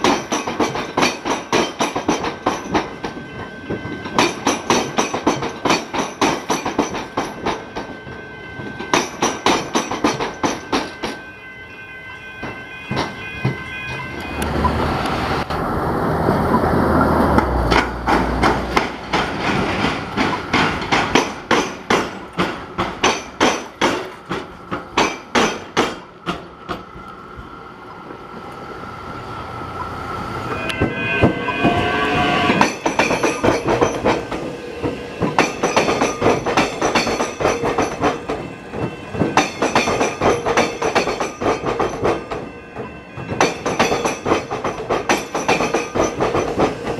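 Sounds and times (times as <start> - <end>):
train wheels clattering over rail gaps: 0.0 - 11.3, 12.4 - 31.9, 32.5 - 46.9.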